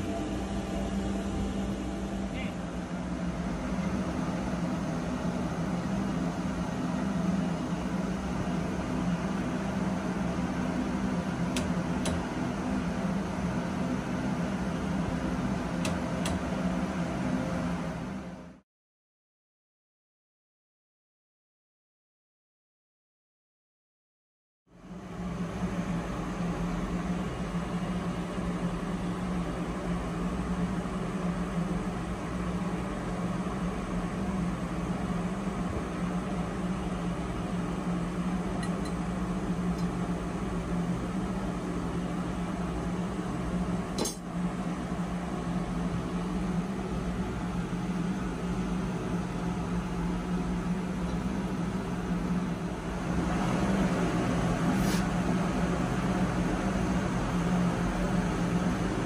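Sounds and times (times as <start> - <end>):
engine room machinery hum: 0.0 - 18.6, 24.7 - 59.0.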